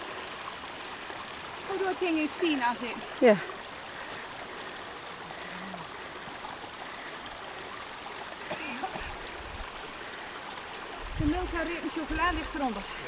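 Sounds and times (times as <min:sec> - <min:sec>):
stream babbling over stones: 0:00.0 - 0:13.0.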